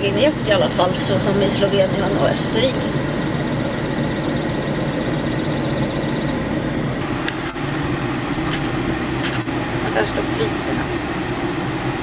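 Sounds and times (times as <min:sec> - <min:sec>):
engine running low: 0:00.0 - 0:12.0.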